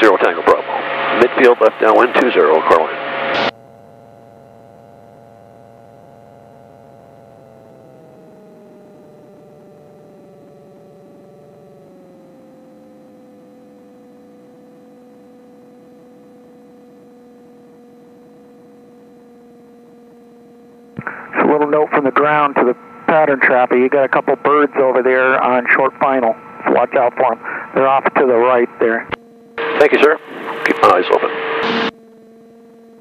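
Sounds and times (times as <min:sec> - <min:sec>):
aircraft engine whine: 0:00.0 - 0:33.0
faint drone: 0:00.0 - 0:33.0.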